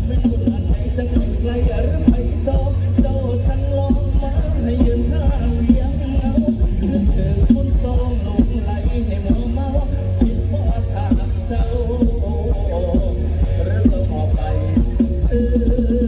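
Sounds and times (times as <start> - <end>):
drum kit: 0.0 - 16.0
heavy bass: 0.0 - 16.0
live band music: 0.0 - 16.0.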